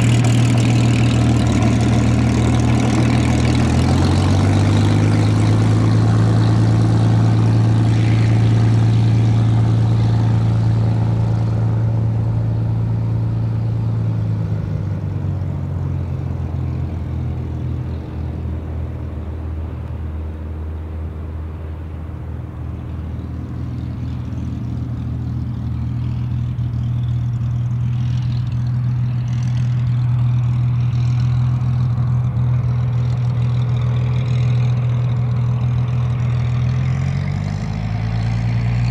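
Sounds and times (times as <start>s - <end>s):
aircraft engine low drone: 0.0s - 38.9s.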